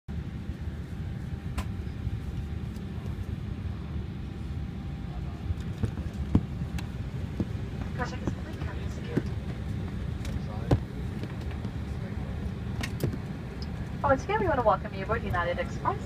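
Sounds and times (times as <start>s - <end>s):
airliner cabin rumble: 0.1s - 16.0s.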